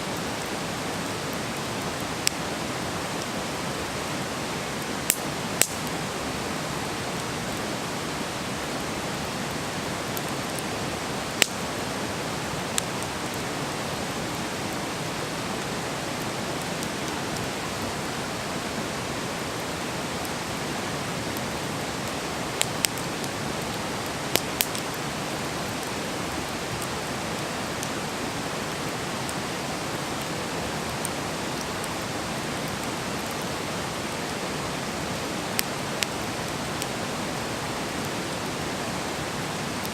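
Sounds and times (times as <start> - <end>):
campfire hissing: 0.0 - 39.9.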